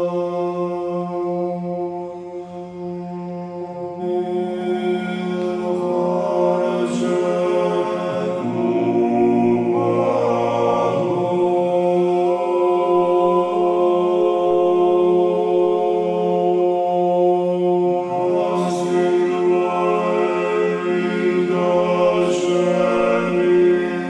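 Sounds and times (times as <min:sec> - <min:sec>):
voices singing a chant: 0:00.0 - 0:24.0.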